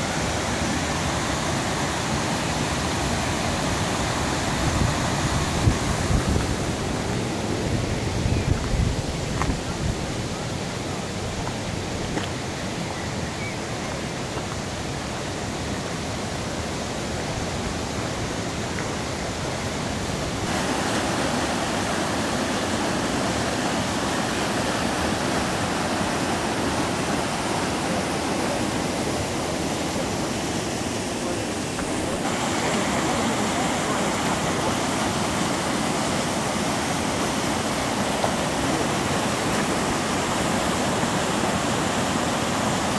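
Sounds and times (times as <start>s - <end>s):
river rushing over rocks: 0.0s - 42.9s.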